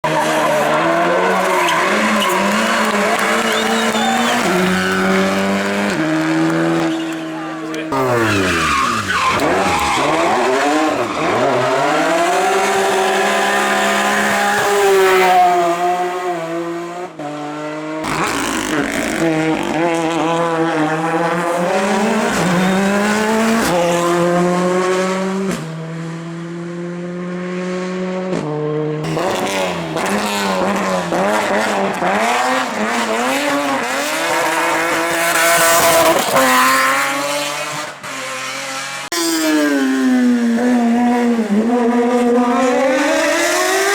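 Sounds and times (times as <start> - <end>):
racing car engines revving: 0.0 - 43.9.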